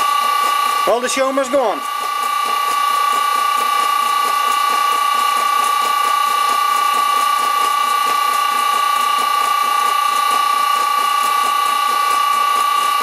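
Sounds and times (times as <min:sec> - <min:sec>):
electric motor high-pitched whine: 0:00.0 - 0:13.0.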